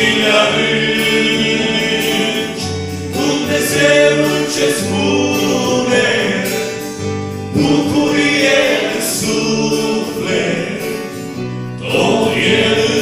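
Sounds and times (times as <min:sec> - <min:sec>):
acoustic guitar: 0:00.0 - 0:13.0
men singing worship song: 0:00.0 - 0:13.0.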